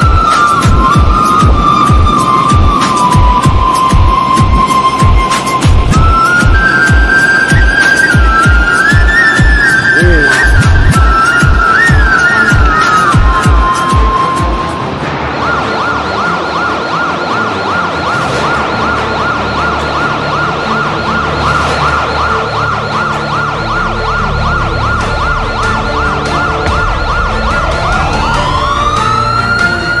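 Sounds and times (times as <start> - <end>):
electronic siren yelping: 0.0 - 30.0
steady noisy background: 0.0 - 30.0.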